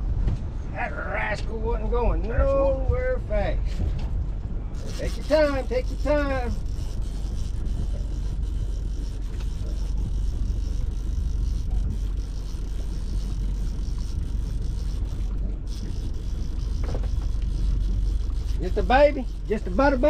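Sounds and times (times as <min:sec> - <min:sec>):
boat motor rumbling: 0:00.0 - 0:20.0.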